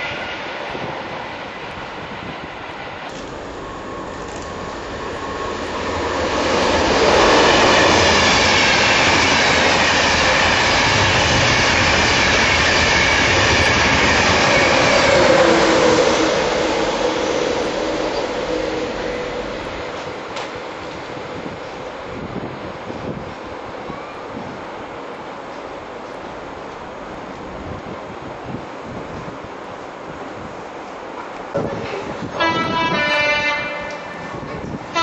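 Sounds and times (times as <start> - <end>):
train wheels rushing on rails: 0.0 - 35.0.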